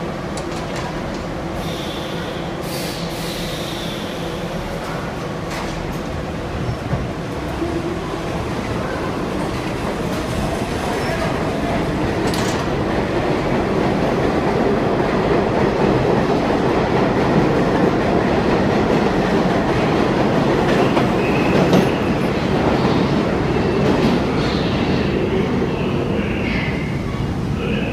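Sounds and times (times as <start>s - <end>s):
train wheels on track: 0.0s - 27.6s.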